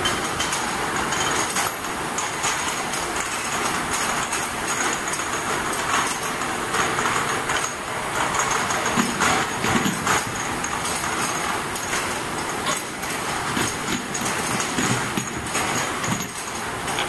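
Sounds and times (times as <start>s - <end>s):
glass vials clattering in machine: 0.0s - 17.0s.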